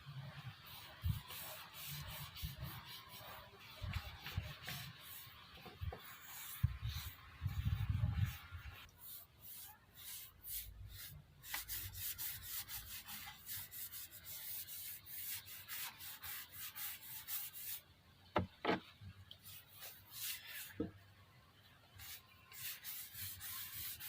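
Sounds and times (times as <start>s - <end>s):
rubbing strokes on wood: 0.2s - 17.8s, 19.4s - 20.9s, 22.0s - 24.0s.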